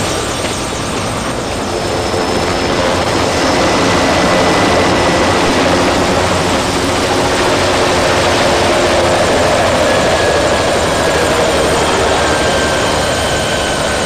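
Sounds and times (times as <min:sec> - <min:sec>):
helicopter rotor and turbine noise: 0:00.0 - 0:14.0.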